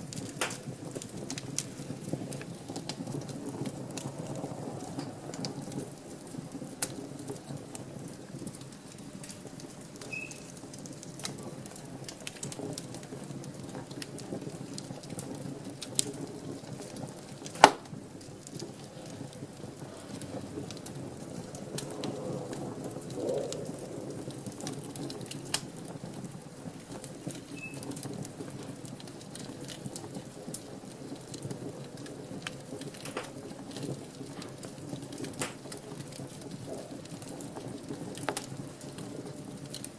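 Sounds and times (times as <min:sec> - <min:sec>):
fire crackling and popping: 0:00.0 - 0:39.9
wood fire burning: 0:00.0 - 0:39.9.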